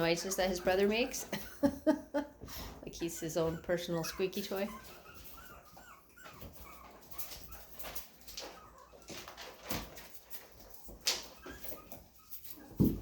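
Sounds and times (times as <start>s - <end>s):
puppy whimpering squeaks: 0.0s - 1.4s, 3.0s - 13.0s.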